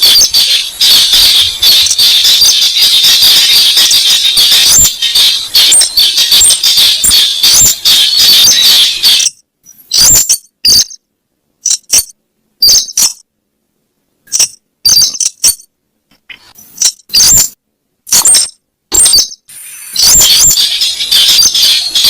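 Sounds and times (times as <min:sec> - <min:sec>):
recorded bird calls playback: 0:00.0 - 0:13.3, 0:14.2 - 0:22.0.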